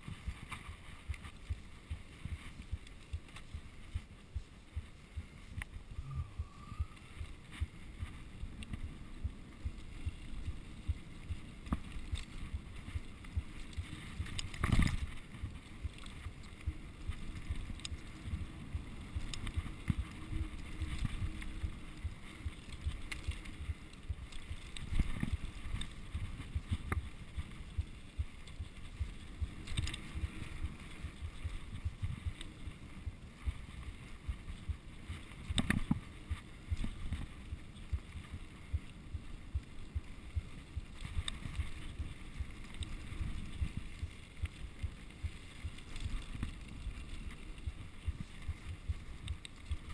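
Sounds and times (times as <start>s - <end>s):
bike tyres rumbling on dirt: 0.0s - 49.9s
wind: 0.0s - 49.9s.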